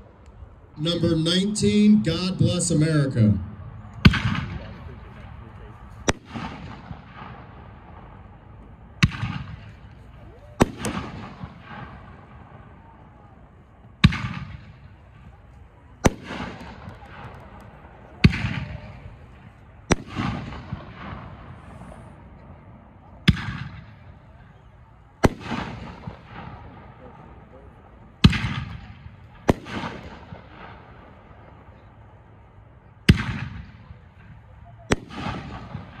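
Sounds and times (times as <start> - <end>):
firework bangs with rolling echo: 4.0 - 31.9, 32.9 - 36.0.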